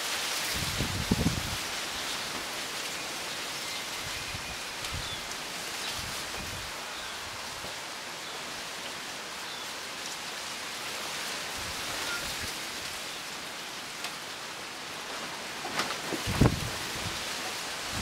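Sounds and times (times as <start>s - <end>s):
wind rustling leaves: 0.0s - 18.0s.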